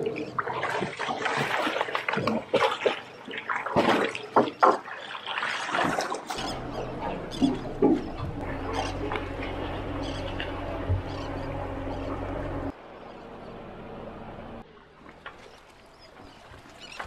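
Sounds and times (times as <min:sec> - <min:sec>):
birds flapping on water: 0:00.0 - 0:12.7, 0:14.8 - 0:17.0
sea water splashing: 0:00.0 - 0:17.0.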